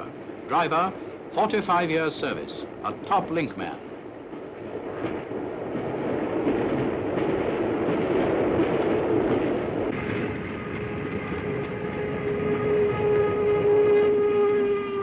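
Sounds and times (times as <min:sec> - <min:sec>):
steam train rumbling: 0:00.0 - 0:15.0.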